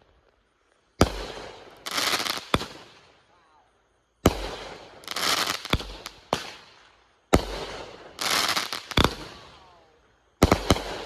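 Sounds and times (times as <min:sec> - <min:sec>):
fireworks hissing crackling bursts: 0:00.0 - 0:11.0
fireworks sharp bangs: 0:01.0 - 0:03.3, 0:04.2 - 0:11.0.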